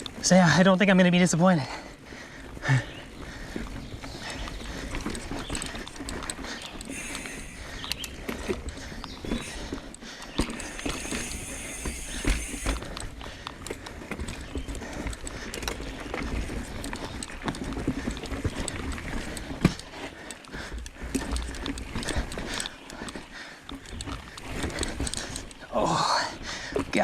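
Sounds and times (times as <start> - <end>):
bike tyres and frame clattering: 2.6 - 25.7.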